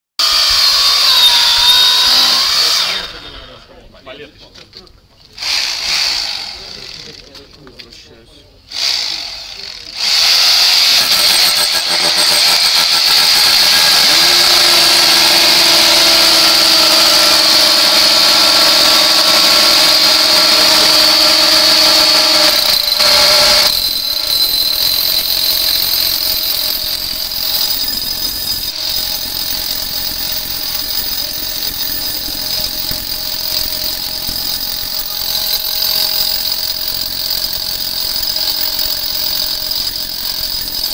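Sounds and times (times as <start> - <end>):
power tools whining: 0.2 - 3.6, 5.3 - 7.7, 8.6 - 40.9.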